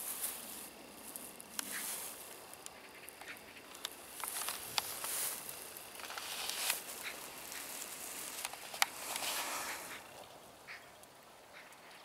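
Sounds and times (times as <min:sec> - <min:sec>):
dry grass rustling: 0:00.0 - 0:12.0
small crisp clicks and crackles: 0:00.0 - 0:12.0.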